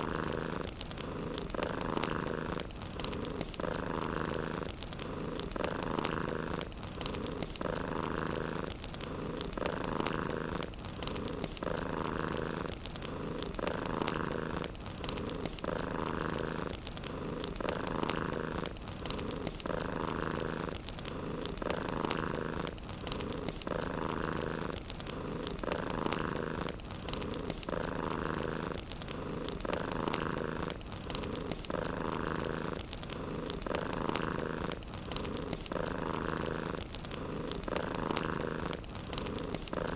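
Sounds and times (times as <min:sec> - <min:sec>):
cat purring: 0:00.0 - 0:39.9
fireplace crackling: 0:00.0 - 0:39.9.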